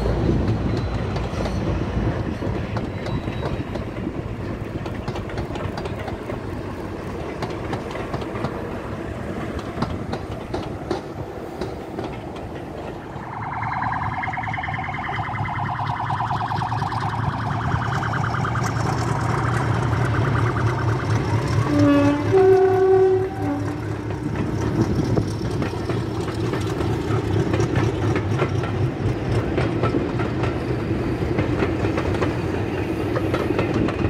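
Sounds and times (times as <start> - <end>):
train wheels clicking over rail joints: 0.0 - 13.2, 18.6 - 34.0
diesel locomotive engine drone: 0.0 - 34.0.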